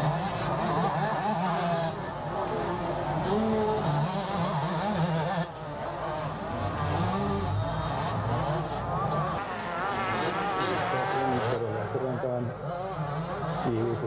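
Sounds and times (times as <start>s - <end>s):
motocross motorcycles revving: 0.0s - 14.0s.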